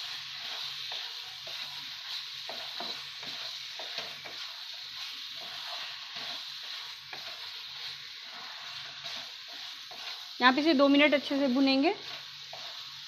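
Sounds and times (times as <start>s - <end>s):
food sizzling in a pan: 0.0s - 13.0s
wooden spatula scraping: 0.0s - 13.0s.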